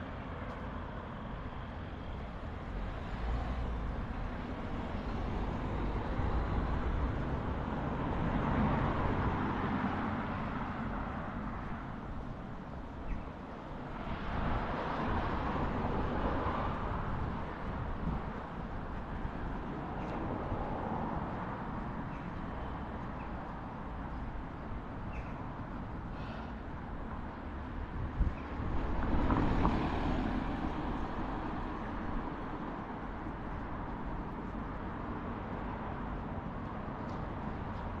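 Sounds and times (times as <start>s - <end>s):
cars passing: 0.0s - 38.0s
low traffic rumble: 0.0s - 38.0s.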